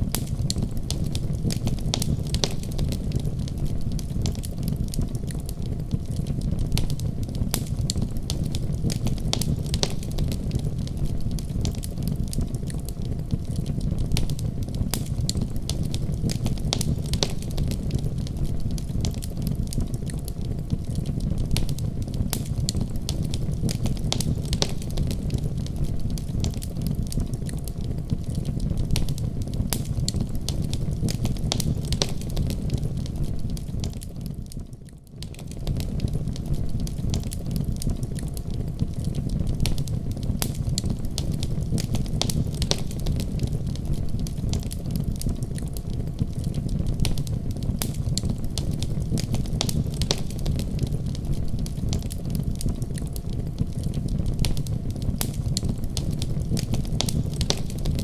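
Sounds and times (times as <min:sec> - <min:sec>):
fire crackling and popping: 0:00.0 - 0:58.0
fire flames rushing: 0:00.1 - 0:34.3, 0:35.3 - 0:58.0.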